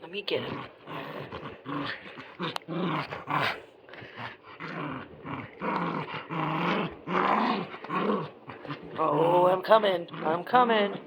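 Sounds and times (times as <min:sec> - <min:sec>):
puppy growling: 0:00.2 - 0:11.0.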